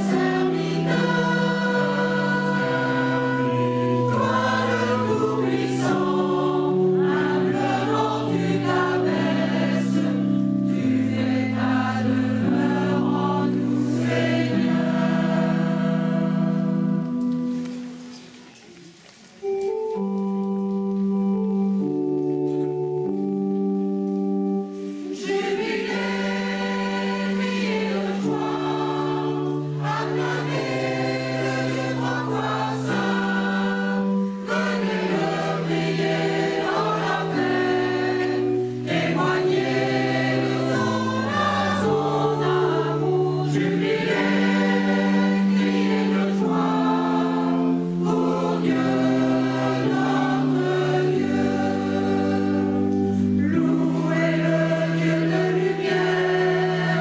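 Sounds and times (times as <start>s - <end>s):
choir singing a hymn: 0.0s - 18.0s, 24.5s - 57.0s
keyboard playing organ-like notes: 0.0s - 18.4s, 19.4s - 57.0s.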